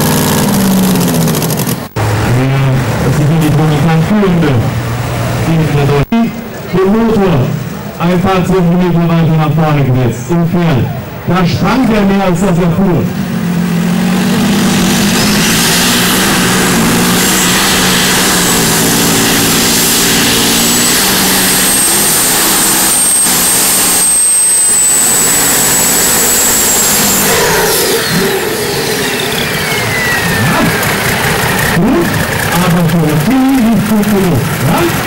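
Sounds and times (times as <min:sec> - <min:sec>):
high whine: 0:00.0 - 0:35.0
tractor engine at full throttle: 0:00.0 - 0:35.0.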